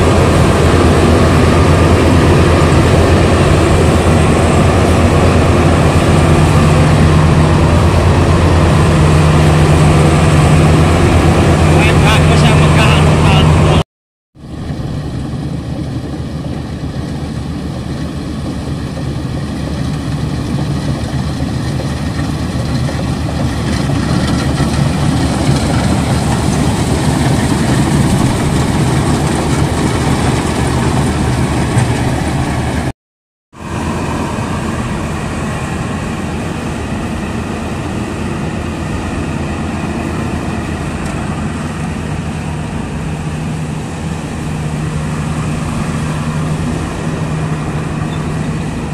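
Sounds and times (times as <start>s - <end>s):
combine harvester engine droning: 0.0s - 13.8s, 14.4s - 32.9s, 33.6s - 48.9s.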